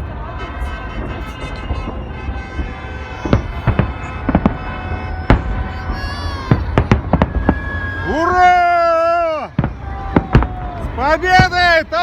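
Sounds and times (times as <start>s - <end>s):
fireworks bangs: 0.0s - 12.0s
low rumble of fireworks bursts: 0.0s - 12.0s.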